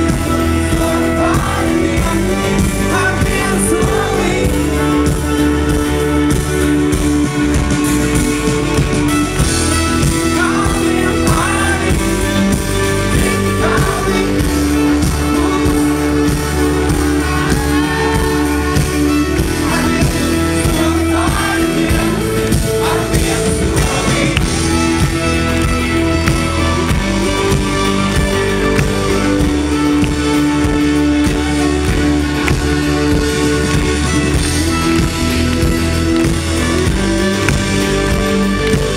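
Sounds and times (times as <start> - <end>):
person singing: 0.0 - 6.8, 9.7 - 38.9
guitar: 0.0 - 38.9
keyboard: 0.0 - 38.9.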